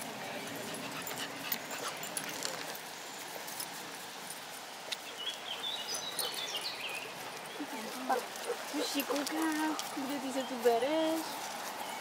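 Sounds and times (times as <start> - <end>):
dog feet on gravel: 0.0 - 12.0.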